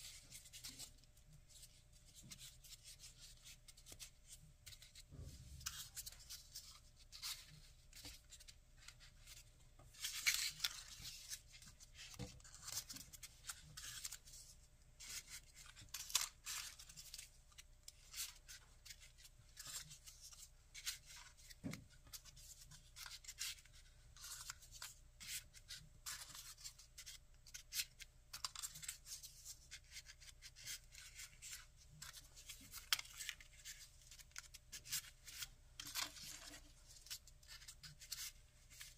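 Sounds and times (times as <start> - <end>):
paper rustling and crinkling: 0.0 - 38.9.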